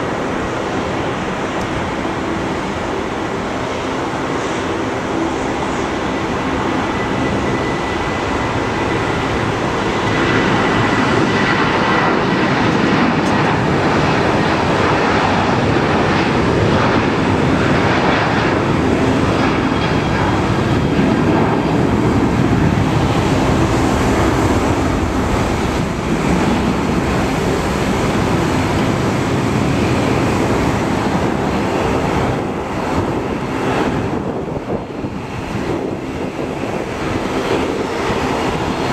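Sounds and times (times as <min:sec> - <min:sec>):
jet engines at takeoff: 0:00.0 - 0:38.9.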